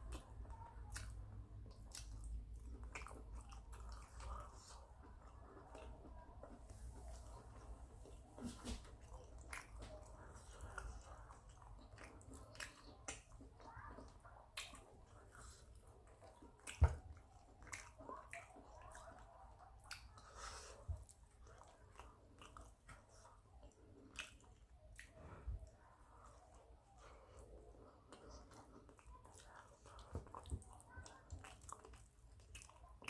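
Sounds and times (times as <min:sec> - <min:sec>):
wet chewing and smacking: 0:00.0 - 0:33.0.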